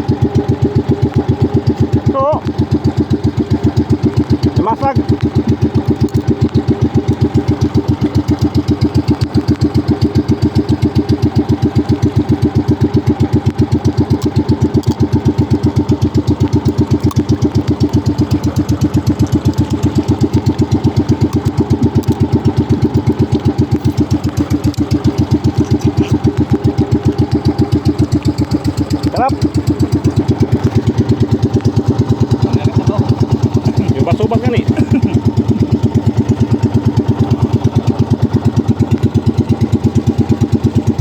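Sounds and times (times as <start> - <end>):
boat engine chugging: 0.0 - 41.0.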